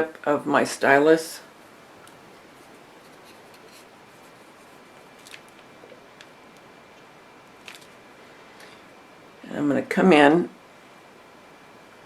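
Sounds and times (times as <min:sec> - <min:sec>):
room hiss: 0:00.0 - 0:12.0.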